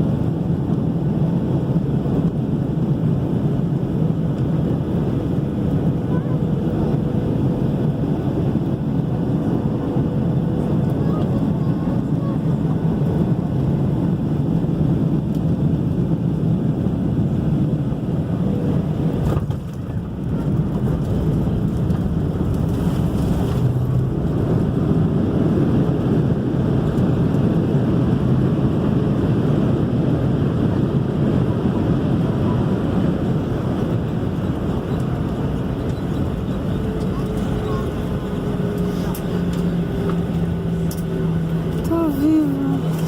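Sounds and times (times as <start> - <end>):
vehicle rumble from inside: 0.0 - 43.0.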